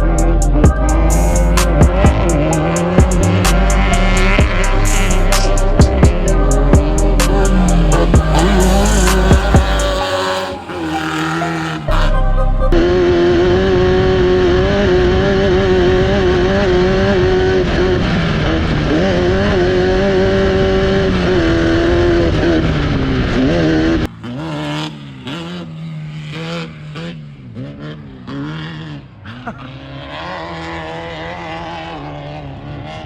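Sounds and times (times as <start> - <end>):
race car engine at high revs: 0.0 - 33.0.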